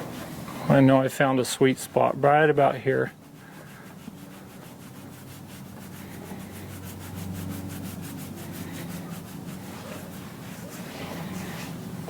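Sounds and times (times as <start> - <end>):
steady low hum: 0.0 - 12.0
hand scratching horse's coat: 0.1 - 12.0.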